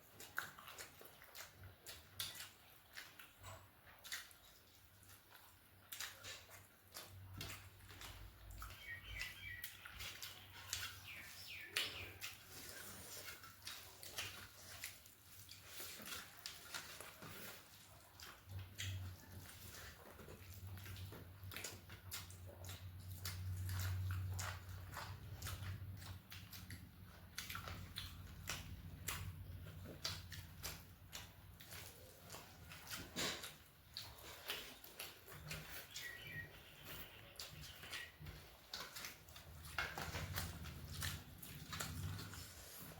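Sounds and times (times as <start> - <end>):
person chewing and smacking: 0.0 - 42.9.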